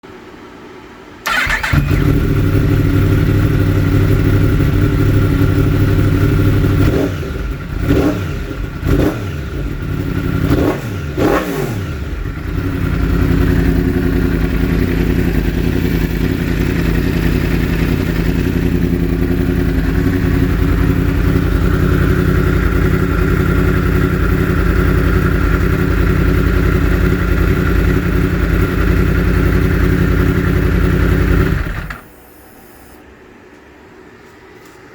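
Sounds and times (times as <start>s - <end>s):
motorcycle engine idling: 1.3s - 32.1s.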